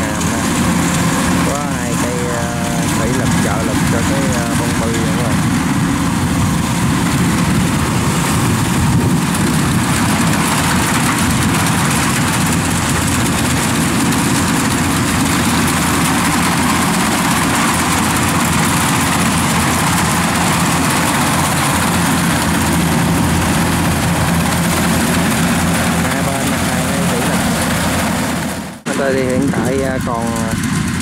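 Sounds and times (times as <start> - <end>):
combine harvester engine drone: 0.0 - 31.0.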